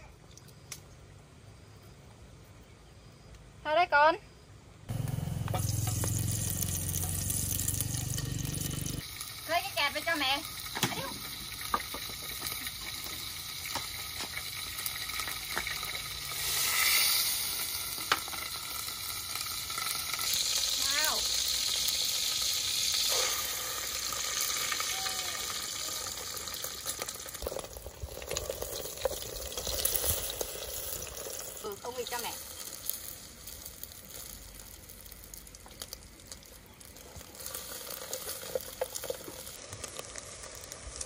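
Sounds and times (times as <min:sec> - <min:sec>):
food sizzling in a pan: 0:04.9 - 0:41.0.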